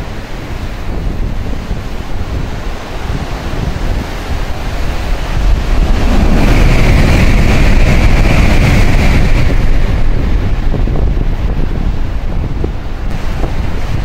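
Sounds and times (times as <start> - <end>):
high-speed train passing: 0.0 - 14.0.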